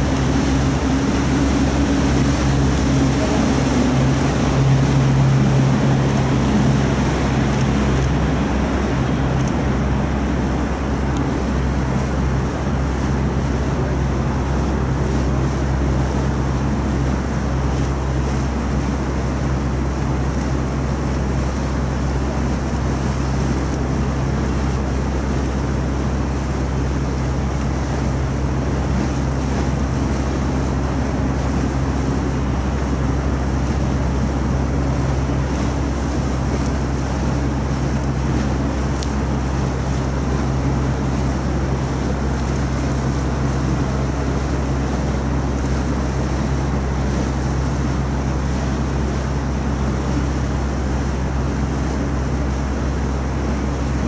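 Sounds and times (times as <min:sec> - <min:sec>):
boat engine drone: 0:00.0 - 0:54.0
low humming tone: 0:00.0 - 0:54.0
water rushing: 0:00.0 - 0:54.0
wind: 0:00.0 - 0:54.0.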